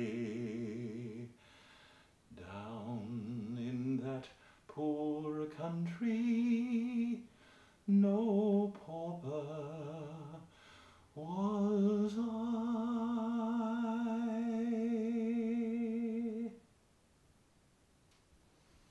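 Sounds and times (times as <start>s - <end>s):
man singing with vibrato: 0.0s - 1.6s, 2.3s - 16.6s.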